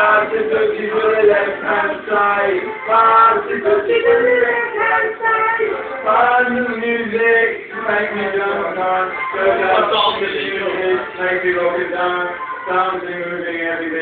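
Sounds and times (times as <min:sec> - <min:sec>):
man singing into a microphone: 0:00.0 - 0:04.9, 0:06.0 - 0:14.0
backing music: 0:00.0 - 0:14.0.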